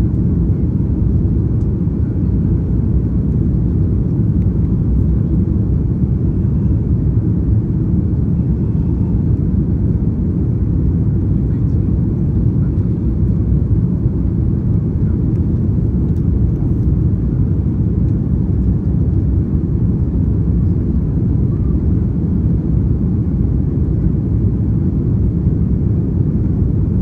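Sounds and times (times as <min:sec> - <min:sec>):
airliner cabin rumble: 0:00.0 - 0:27.0.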